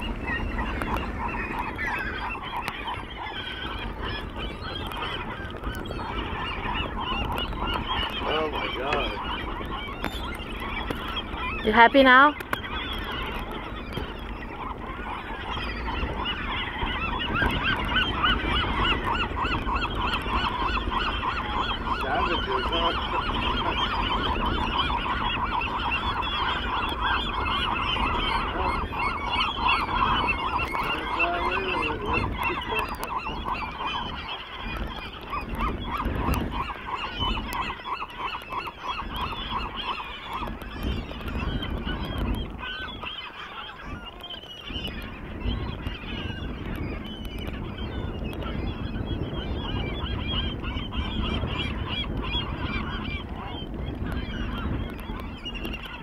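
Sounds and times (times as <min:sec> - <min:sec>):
gulls squawking: 0:00.0 - 0:56.0.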